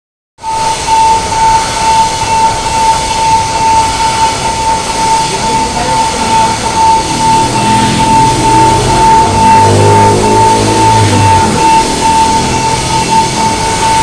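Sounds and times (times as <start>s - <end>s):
slotting machine whine and rumble: 0.4s - 14.0s.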